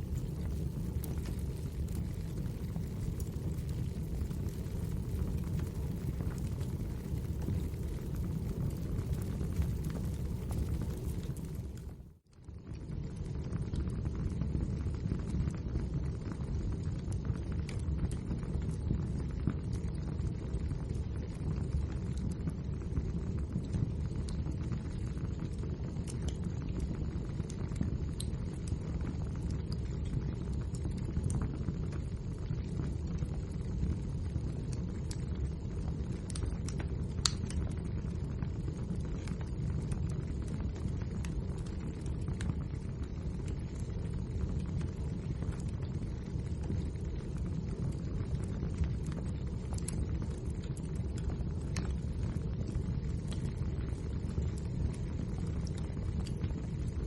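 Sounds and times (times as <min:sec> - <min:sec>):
fire crackling and popping: 0:00.0 - 0:57.0
low rumble of flames: 0:00.0 - 0:57.0.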